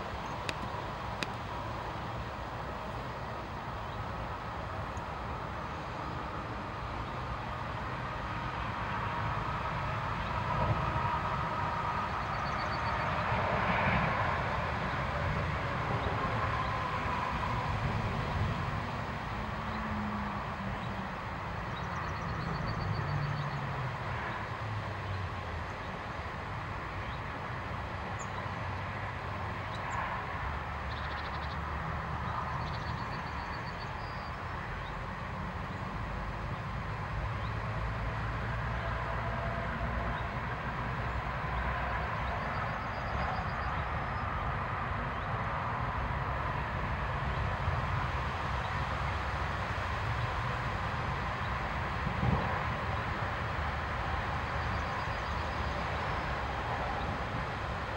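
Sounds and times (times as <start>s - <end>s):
distant road traffic rumble: 0.0s - 57.9s.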